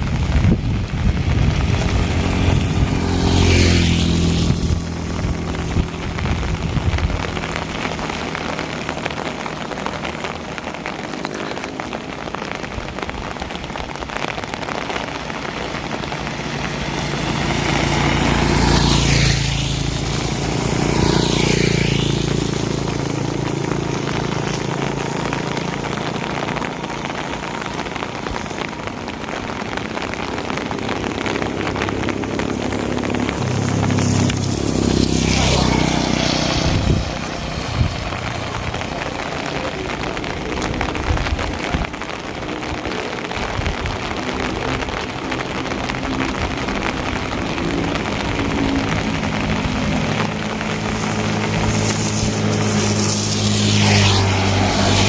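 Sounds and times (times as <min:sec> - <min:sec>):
rain falling: 0:00.0 - 0:55.0
vehicles driving past on wet road: 0:00.0 - 0:55.0.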